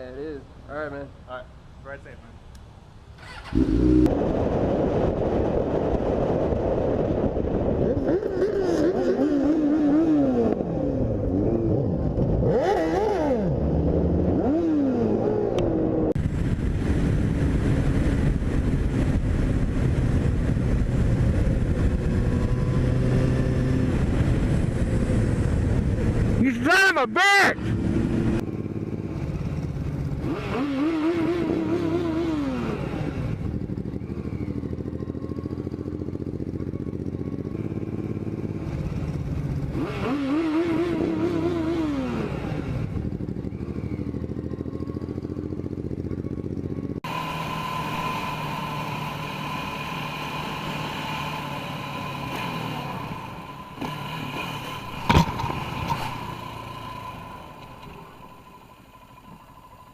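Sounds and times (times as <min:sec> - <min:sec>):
road noise with whine: 0:00.0 - 0:59.9
motorcycle engine accelerating: 0:03.2 - 0:26.4, 0:27.6 - 0:59.9.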